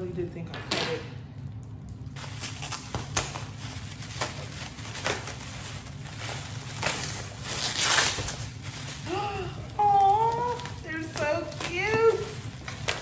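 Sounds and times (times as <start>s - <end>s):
bubble wrap crinkling: 1.2s - 13.0s
scissors cutting bubble wrap: 2.2s - 13.0s.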